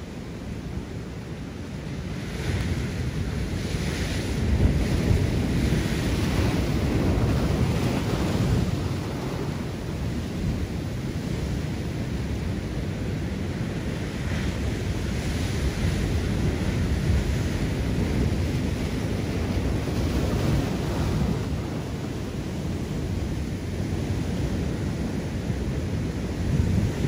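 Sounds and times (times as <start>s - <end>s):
wind buffeting microphone: 1.9s - 27.0s.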